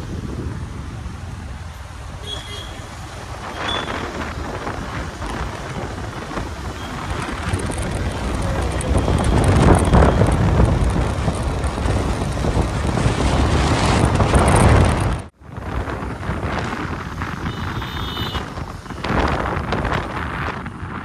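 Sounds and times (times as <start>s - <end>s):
wind buffeting microphone: 0.0s - 2.2s, 2.9s - 21.0s
road noise: 0.0s - 21.0s.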